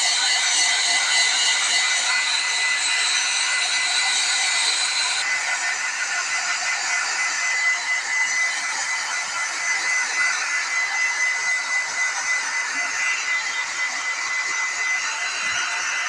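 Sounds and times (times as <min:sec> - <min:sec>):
hair dryer running: 0:00.0 - 0:16.0.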